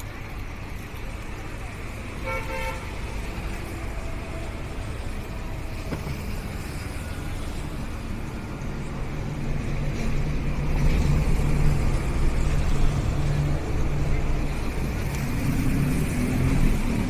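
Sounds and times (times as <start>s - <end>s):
passing road traffic: 0.0s - 17.0s
vehicle engine hum: 0.0s - 17.0s.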